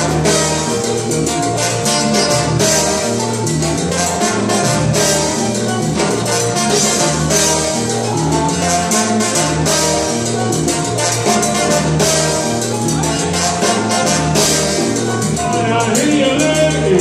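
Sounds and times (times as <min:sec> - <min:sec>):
congas and timbales beat: 0:00.0 - 0:17.0
salsa band playing: 0:00.0 - 0:17.0
trombone: 0:00.0 - 0:17.0.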